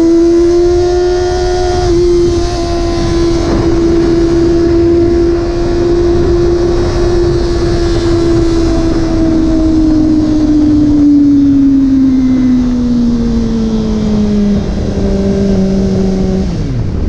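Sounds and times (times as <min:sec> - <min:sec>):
low rumble of wind noise: 0:00.0 - 0:17.0
motorcycle engine cruising: 0:00.0 - 0:17.0.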